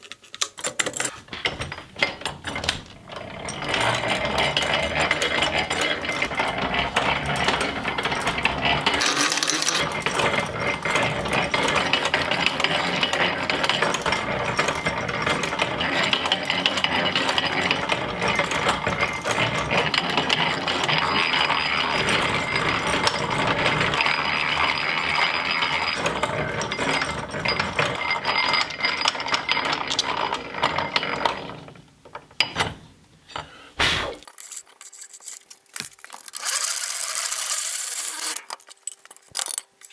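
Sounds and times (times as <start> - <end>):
hand-cranked drill gears clattering: 0.2 - 31.7, 34.3 - 39.9.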